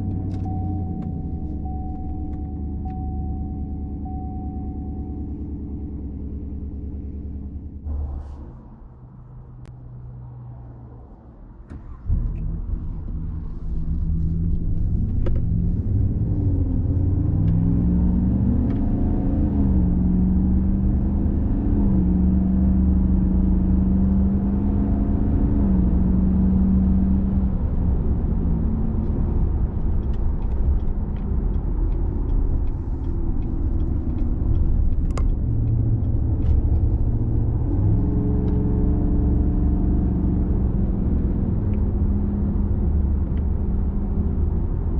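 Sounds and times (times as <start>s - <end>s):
truck engine idling and accelerating: 0.0s - 44.9s.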